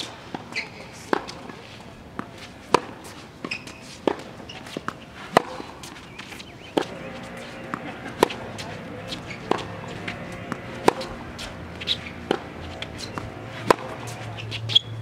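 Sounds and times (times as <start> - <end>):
footsteps on court: 0.0 - 15.0
racket striking tennis ball: 0.0 - 15.0
tennis ball bouncing: 0.0 - 15.0.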